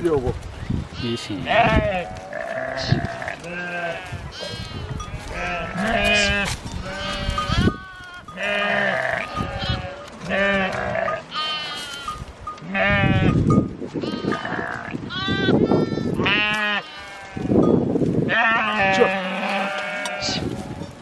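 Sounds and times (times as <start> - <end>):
sheep bleating: 0.9 - 13.4, 14.0 - 17.6, 18.3 - 20.8.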